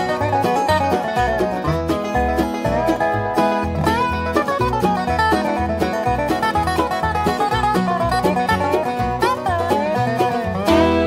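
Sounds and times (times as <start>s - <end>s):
banjo picking: 0.0s - 11.0s
bouncing bass line: 0.0s - 11.0s.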